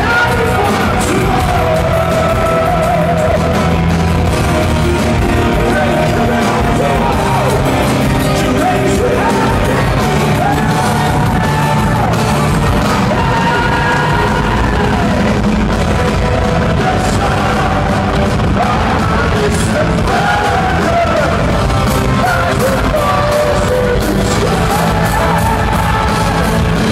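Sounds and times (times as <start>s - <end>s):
power metal band playing live: 0.0s - 26.9s.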